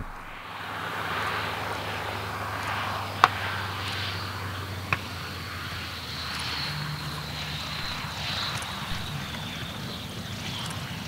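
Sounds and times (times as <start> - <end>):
propeller plane engine: 0.0 - 11.0.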